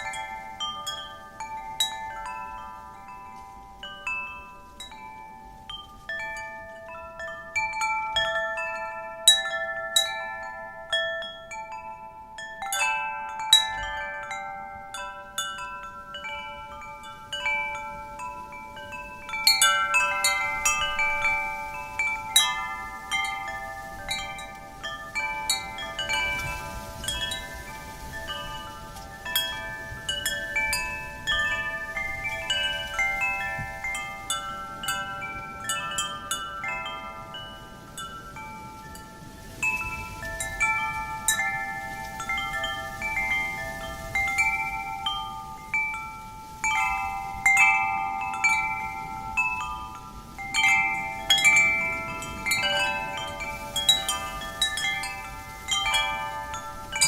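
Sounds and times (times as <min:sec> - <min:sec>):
low rush of wind: 0:00.0 - 0:57.0
wind chimes ringing: 0:00.0 - 0:57.0.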